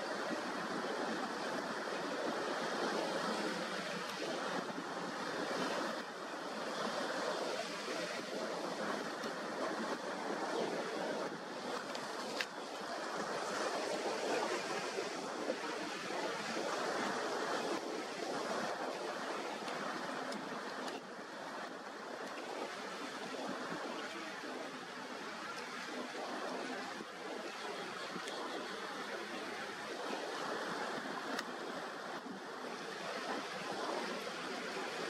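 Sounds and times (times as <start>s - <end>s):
ocean waves and surf: 0.0s - 35.0s
wind: 0.0s - 35.0s.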